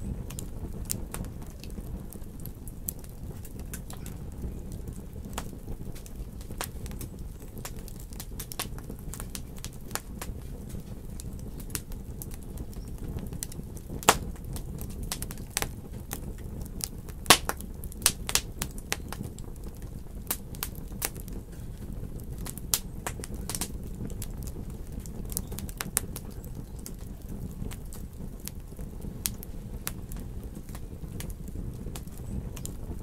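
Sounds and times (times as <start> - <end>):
loud fire pops: 0.0 - 33.0
wood fire crackling: 0.0 - 33.0.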